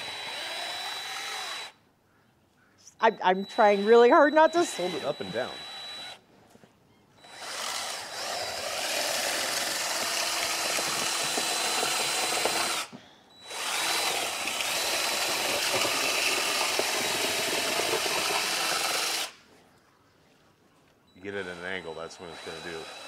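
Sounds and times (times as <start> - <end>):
drill motor whining: 0.0 - 1.8, 3.0 - 6.2, 7.2 - 19.4, 21.2 - 23.0.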